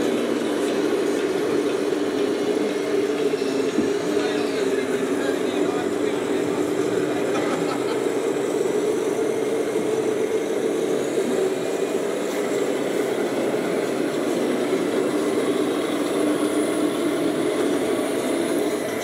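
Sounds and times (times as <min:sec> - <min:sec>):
simulated diesel engine idling: 0:00.0 - 0:19.0.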